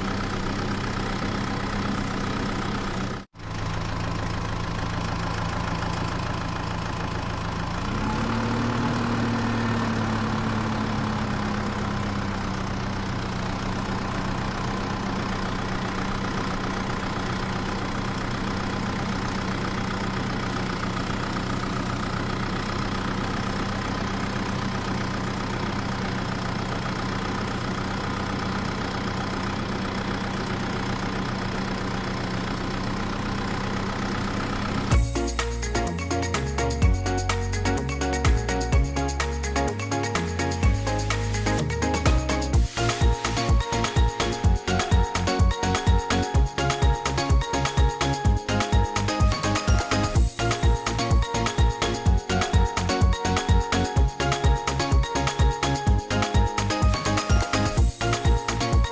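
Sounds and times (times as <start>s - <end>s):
engine-like idling drone: 0.0s - 58.9s.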